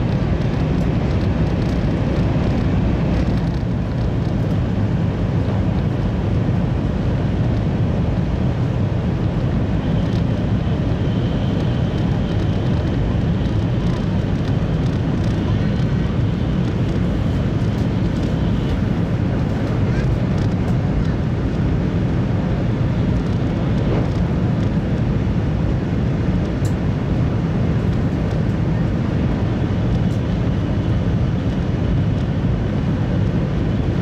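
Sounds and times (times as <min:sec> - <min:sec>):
train cabin rumble and rush: 0:00.0 - 0:34.0.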